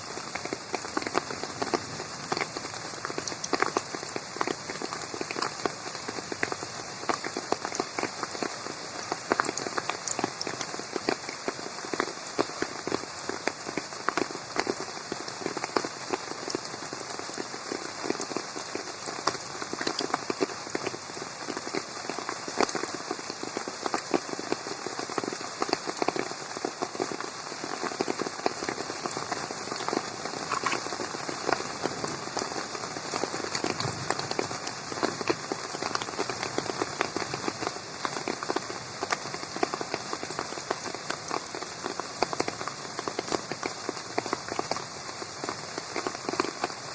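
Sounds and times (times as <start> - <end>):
rain falling on a pond: 0.0 - 46.9.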